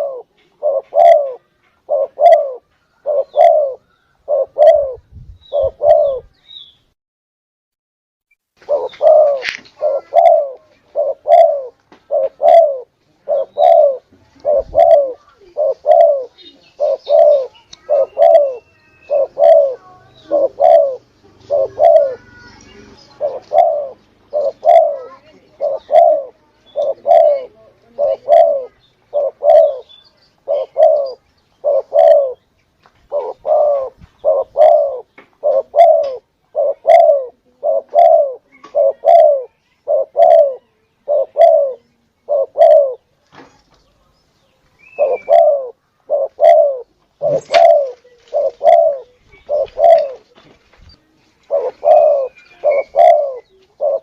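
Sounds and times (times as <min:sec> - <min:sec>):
dove cooing: 0:00.0 - 0:06.4, 0:08.6 - 0:32.4, 0:33.1 - 0:43.1, 0:44.8 - 0:50.4, 0:51.4 - 0:54.0.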